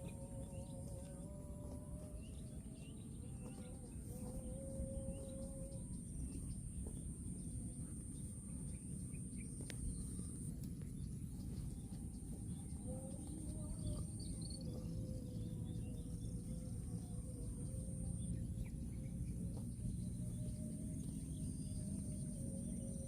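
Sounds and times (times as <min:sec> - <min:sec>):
low rumbling noise: 0:00.0 - 0:23.0.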